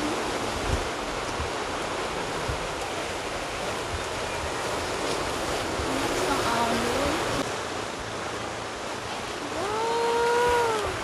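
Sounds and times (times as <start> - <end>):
ocean waves washing ashore: 0.0 - 11.0.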